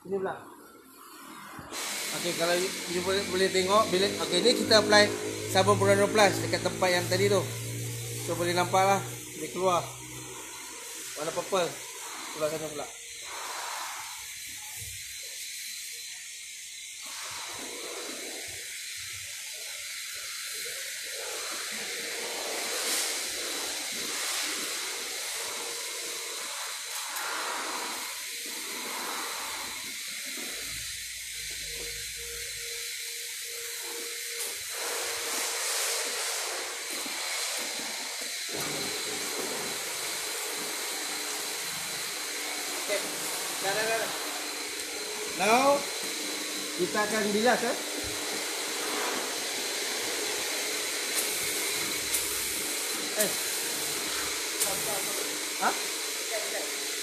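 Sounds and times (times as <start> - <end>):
water jet hissing: 0.0 - 57.0.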